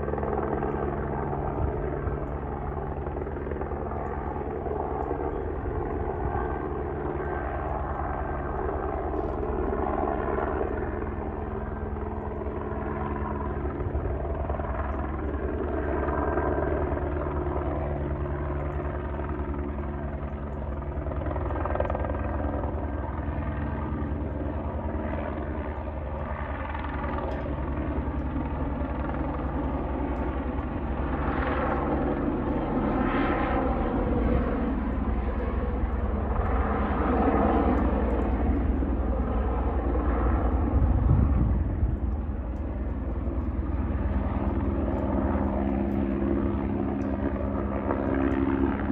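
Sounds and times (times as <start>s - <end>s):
helicopter flying overhead: 0.0s - 48.9s.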